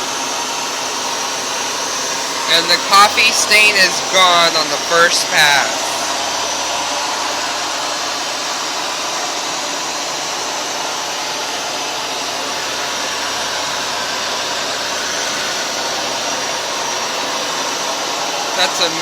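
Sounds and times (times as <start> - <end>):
carpet washer motor whirring: 0.0 - 19.0.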